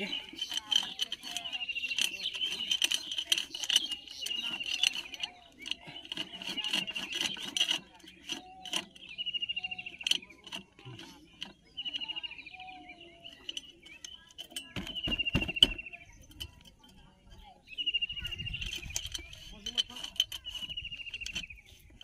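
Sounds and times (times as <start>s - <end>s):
light metal clicks and scraping: 0.0s - 22.0s.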